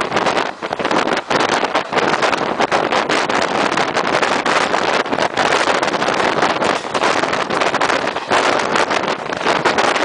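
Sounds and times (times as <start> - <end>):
train running at speed: 0.0 - 10.0
wind buffeting microphone: 0.0 - 10.0.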